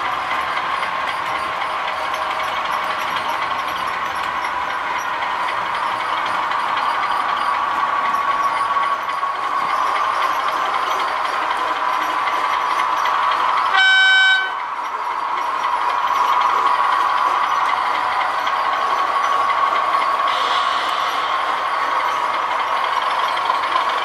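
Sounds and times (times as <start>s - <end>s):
model locomotive diesel drone: 0.0s - 24.0s.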